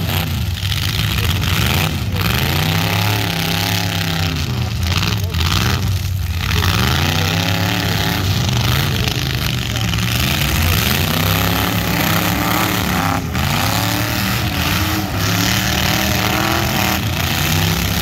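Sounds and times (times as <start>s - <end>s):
car engines revving: 0.0s - 18.0s
loud roar of motors: 0.0s - 18.0s.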